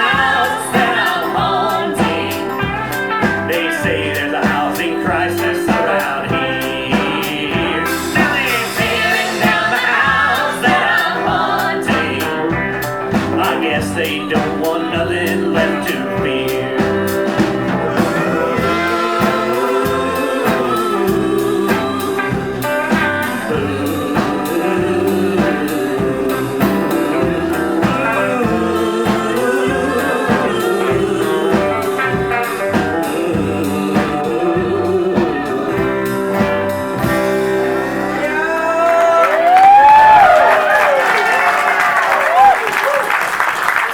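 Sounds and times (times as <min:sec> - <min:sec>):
guitar bending sliding notes: 0:00.0 - 0:39.0
live country blues band: 0:00.0 - 0:43.9.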